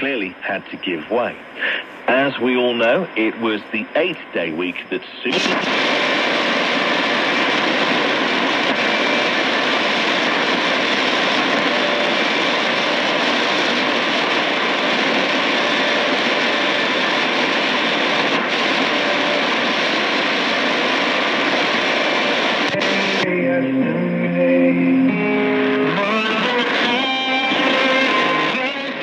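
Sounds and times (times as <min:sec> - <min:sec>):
shortwave radio static and hiss: 0:00.0 - 0:29.0.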